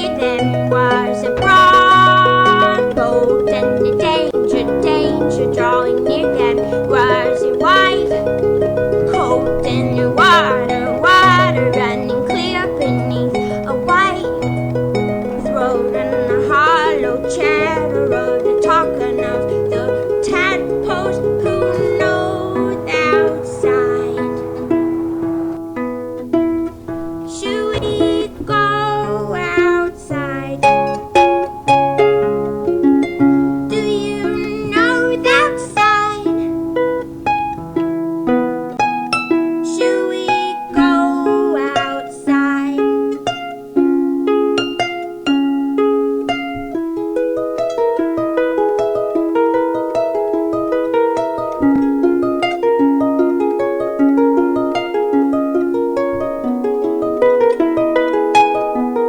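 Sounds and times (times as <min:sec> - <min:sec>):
harp plucked notes: 0:00.0 - 0:59.0
held wavering notes: 0:00.0 - 0:59.0.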